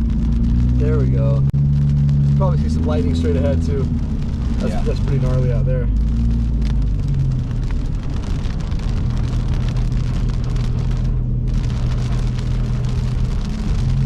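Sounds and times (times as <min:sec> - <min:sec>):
car engine and road rumble: 0:00.0 - 0:14.0
rain hitting car roof: 0:00.0 - 0:14.0.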